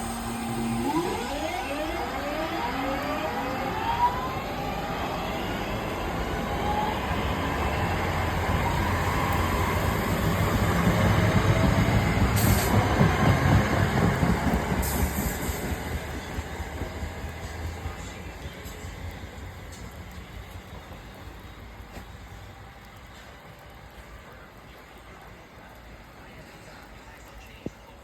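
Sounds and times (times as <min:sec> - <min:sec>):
train motor whine: 0:00.0 - 0:23.4
wheels rumbling on rails: 0:00.0 - 0:27.2.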